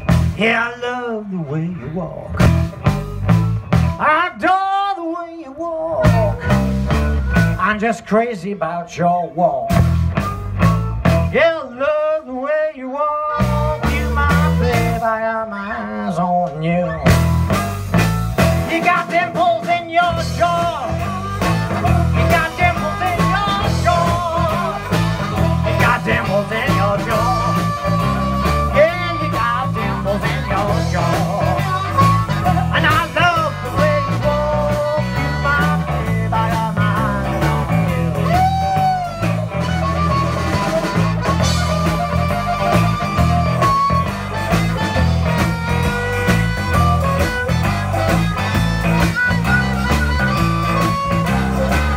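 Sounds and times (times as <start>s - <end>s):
drums steady rhythm: 0.0s - 0.7s, 2.2s - 4.4s, 6.0s - 8.1s, 9.5s - 11.8s, 13.3s - 15.3s, 16.4s - 51.9s
electric guitars: 0.0s - 51.9s
harmonica solo with bending notes: 5.7s - 8.0s, 9.8s - 11.4s, 13.0s - 51.9s.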